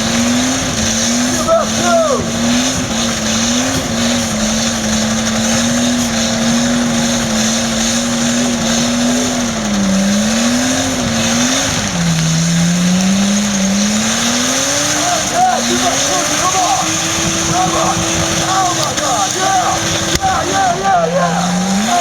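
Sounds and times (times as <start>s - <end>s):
car engine at high revs: 0.0s - 22.0s
continuous noisy wash: 0.0s - 22.0s.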